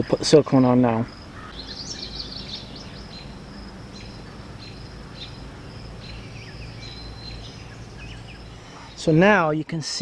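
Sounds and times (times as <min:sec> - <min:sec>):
bird and insect chirps: 0:00.0 - 0:10.0
low steady rumble: 0:01.1 - 0:10.0.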